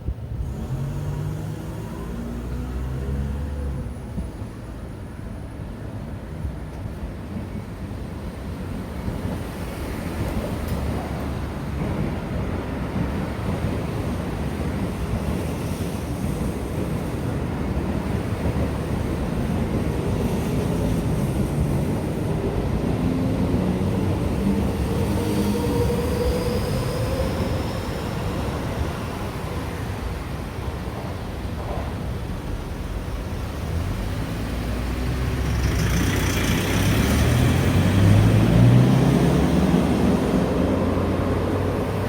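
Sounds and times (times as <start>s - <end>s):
train rumbling: 0.0s - 42.0s.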